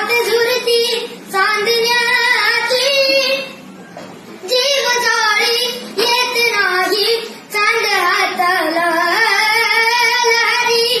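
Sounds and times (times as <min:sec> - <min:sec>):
child singing: 0:00.0 - 0:03.6, 0:04.4 - 0:11.0.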